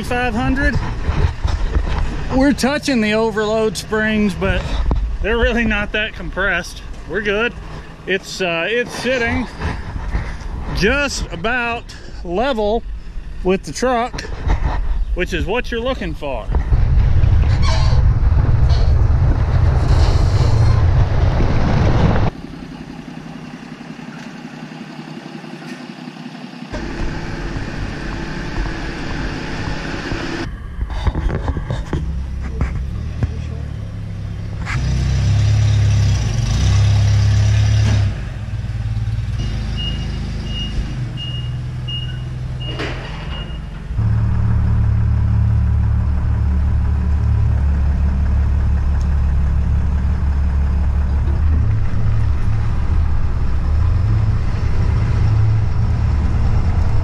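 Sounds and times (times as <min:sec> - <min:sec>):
truck rumbling: 0:00.0 - 0:57.0.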